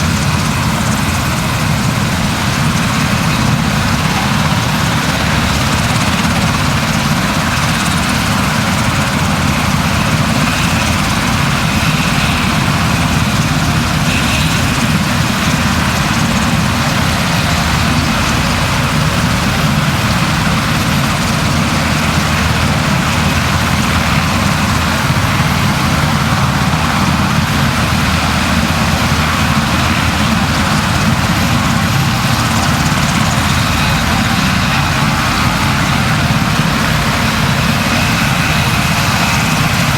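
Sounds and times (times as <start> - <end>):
loud engine drone: 0.0 - 39.9.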